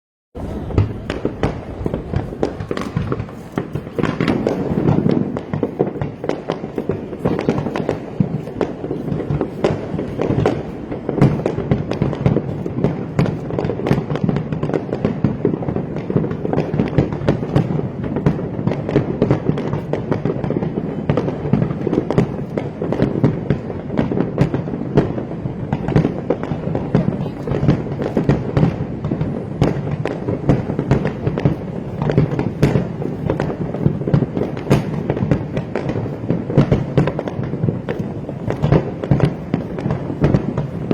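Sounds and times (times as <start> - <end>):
fireworks popping and banging: 0.4 - 40.9.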